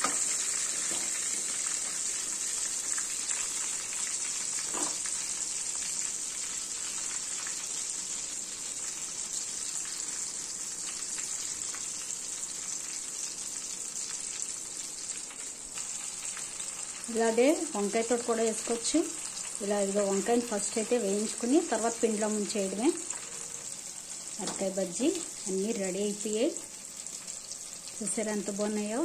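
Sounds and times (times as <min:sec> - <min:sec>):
food deep-frying in oil: 0:00.0 - 0:29.0.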